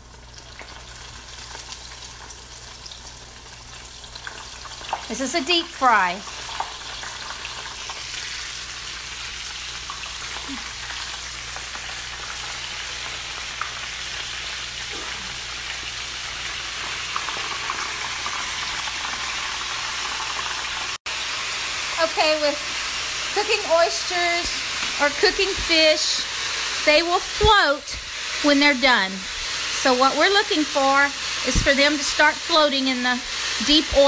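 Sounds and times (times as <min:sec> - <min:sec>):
oil sizzling: 0:00.0 - 0:34.0.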